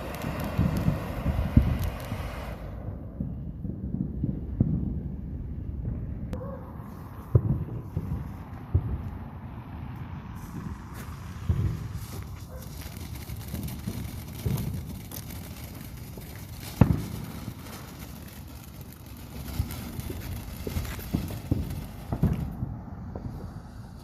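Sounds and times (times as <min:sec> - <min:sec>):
firework bangs and pops: 0:00.0 - 0:05.1, 0:07.0 - 0:09.3, 0:10.4 - 0:24.0.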